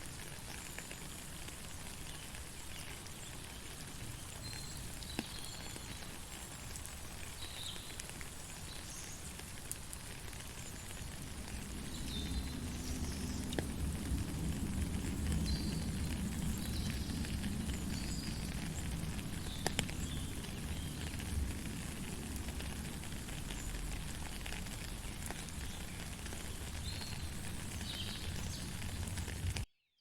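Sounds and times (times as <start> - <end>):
heavy rain: 0.0 - 29.6
raindrop clicks: 0.1 - 29.7.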